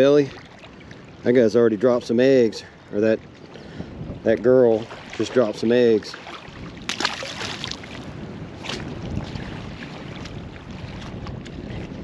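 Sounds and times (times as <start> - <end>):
water lapping at lake edge: 0.0 - 12.0
wind buffeting microphone: 0.0 - 12.0.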